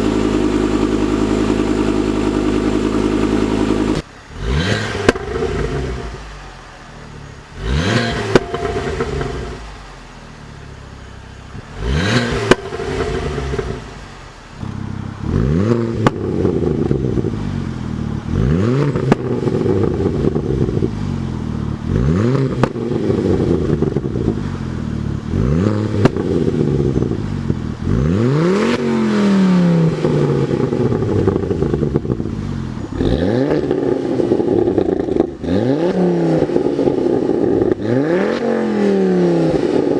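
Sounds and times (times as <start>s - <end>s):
exhaust pops and crackles: 0.0s - 6.2s, 7.6s - 9.8s, 11.4s - 28.8s, 29.9s - 38.5s
car engine revving: 0.0s - 39.9s.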